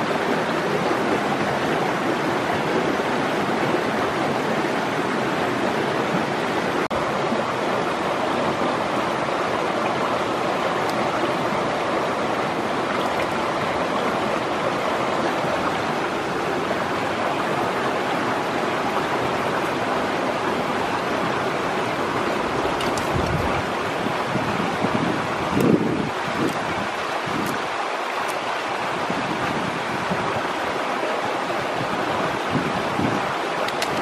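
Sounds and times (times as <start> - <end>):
stream water rushing over rocks: 0.0 - 34.0.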